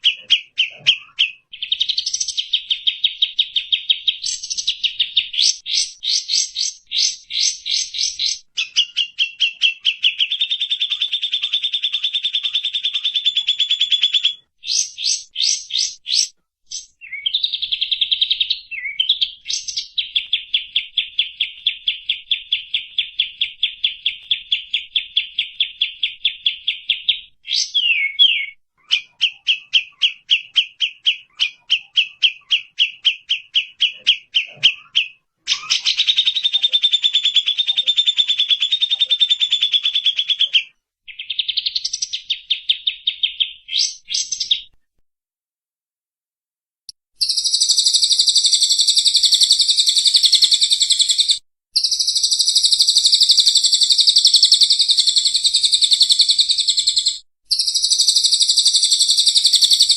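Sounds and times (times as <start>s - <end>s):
songbird chirps and trills: 0.0s - 44.8s, 46.9s - 59.9s.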